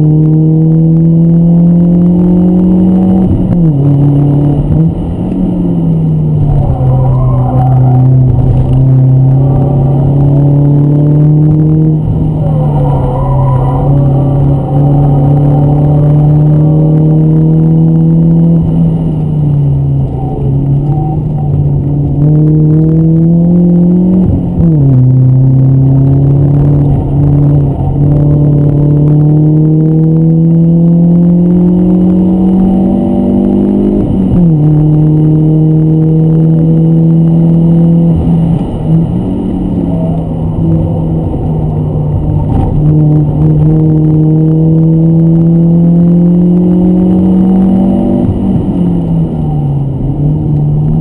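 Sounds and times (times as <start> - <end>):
car engine revving in cabin: 0.0 - 51.0.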